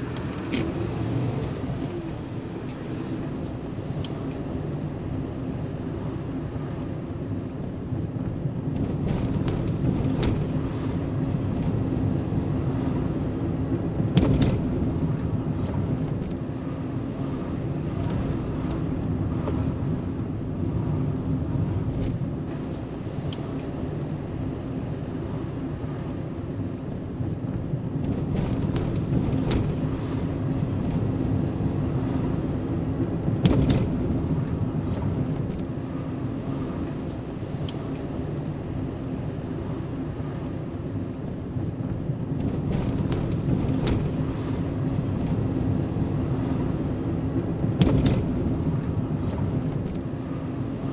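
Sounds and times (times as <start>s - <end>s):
engine and tyre hum: 0.0s - 50.9s.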